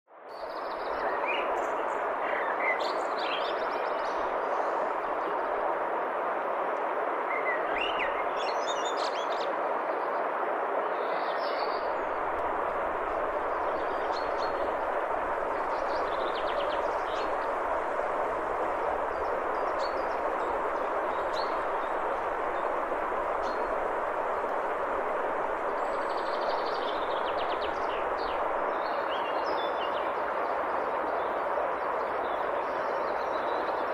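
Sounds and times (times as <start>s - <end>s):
stream rushing over rocks: 0.9s - 33.9s.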